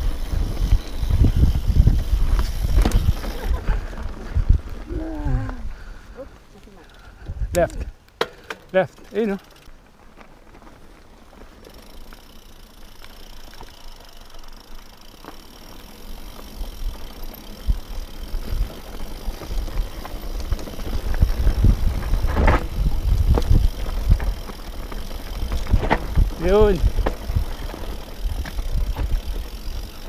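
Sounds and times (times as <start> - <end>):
wheels knocking on rocks: 0.0 - 4.8, 7.6 - 30.0
bike rattling: 0.0 - 30.0
bike tyres crunching on dirt: 0.0 - 30.0.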